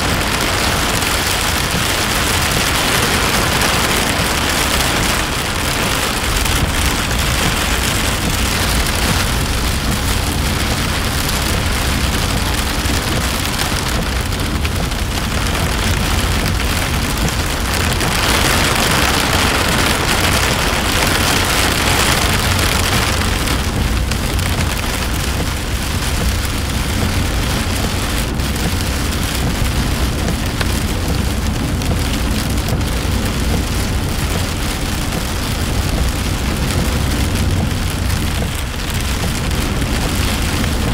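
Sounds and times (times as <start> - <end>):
heavy rain on car: 0.0 - 40.9
tyres rumbling on wet road: 0.0 - 40.9.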